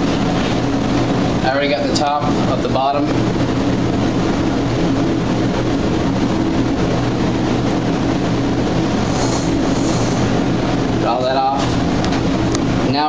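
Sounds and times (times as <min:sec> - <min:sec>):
mechanical hum with low drone: 0:00.0 - 0:13.0.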